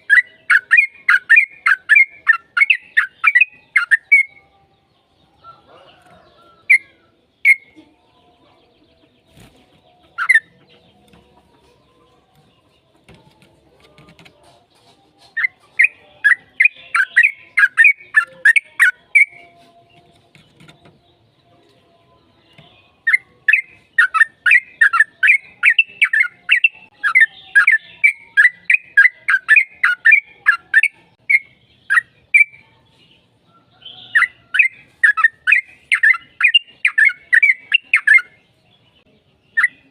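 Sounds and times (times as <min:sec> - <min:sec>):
bird chattering song: 0:00.0 - 0:04.5, 0:05.1 - 0:07.8, 0:08.8 - 0:39.9.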